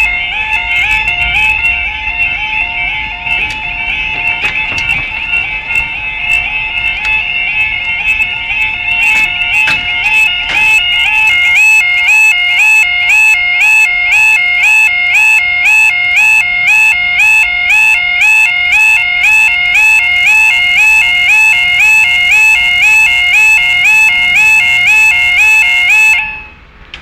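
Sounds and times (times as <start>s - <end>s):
two-tone crossing alarm: 0.0s - 26.7s.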